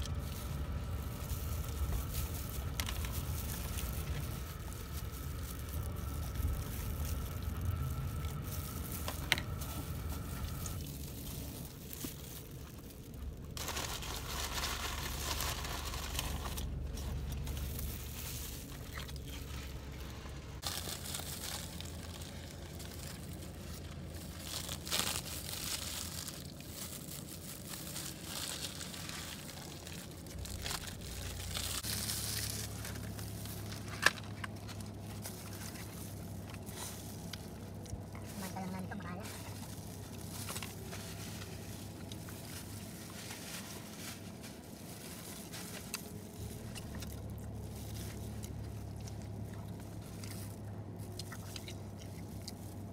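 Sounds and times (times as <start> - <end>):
paper wrapper crinkling: 0.0 - 52.9.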